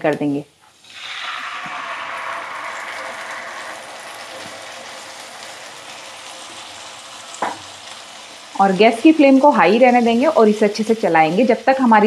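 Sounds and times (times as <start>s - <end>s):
gravy sizzling in hot oil: 0.6s - 12.0s.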